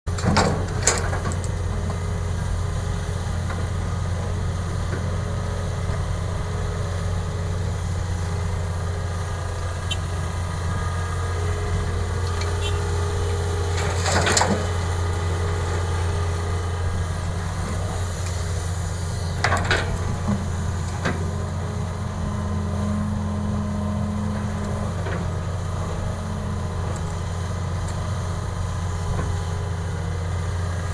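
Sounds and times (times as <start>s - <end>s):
excavator diesel engine running: 0.1s - 30.9s.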